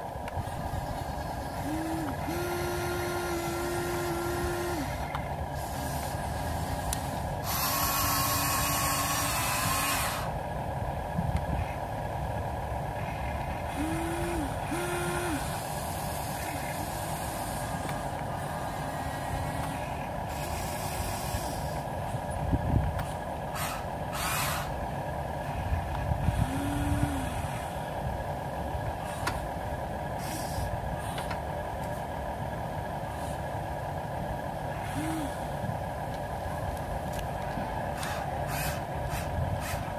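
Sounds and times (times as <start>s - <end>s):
electric motors whining: 0.2s - 10.7s, 11.4s - 32.2s, 33.0s - 39.9s.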